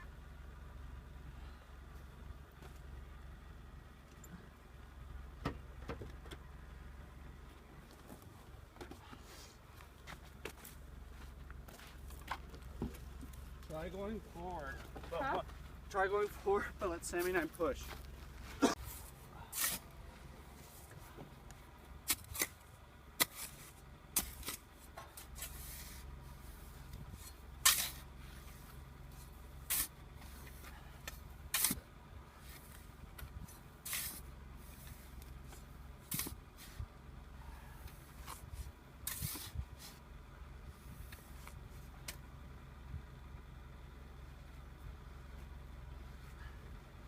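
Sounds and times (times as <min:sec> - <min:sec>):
car engine idling: 0:00.0 - 0:39.1, 0:39.8 - 0:47.0.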